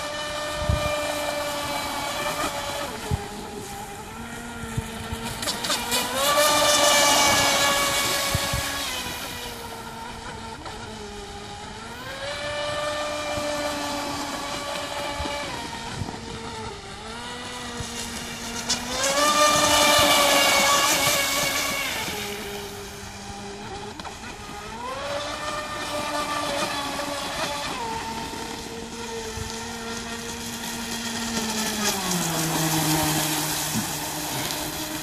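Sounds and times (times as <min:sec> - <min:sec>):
boat motor whining: 0:00.0 - 0:35.0.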